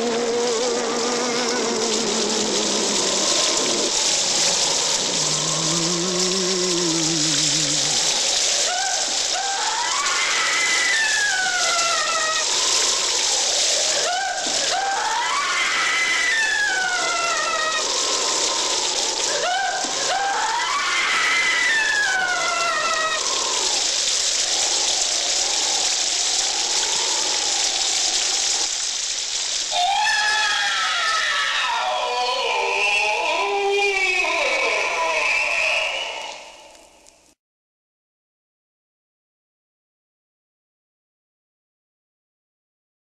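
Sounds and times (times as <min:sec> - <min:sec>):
steady rain-like hiss: 0:00.0 - 0:37.4.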